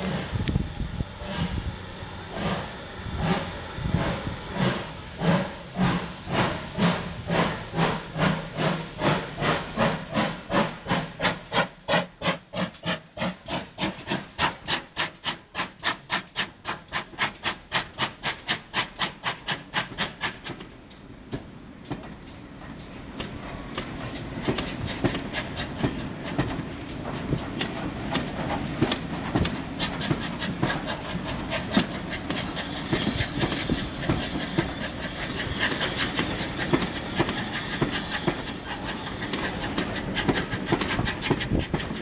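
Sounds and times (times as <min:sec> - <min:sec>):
steam hiss: 0:00.0 - 0:20.7, 0:22.9 - 0:42.0
steam locomotive chuffing: 0:00.0 - 0:42.0.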